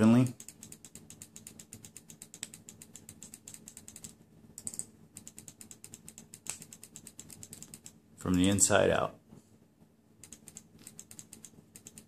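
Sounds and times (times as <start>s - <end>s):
rapid even ticking: 0.0s - 8.0s, 10.2s - 12.0s.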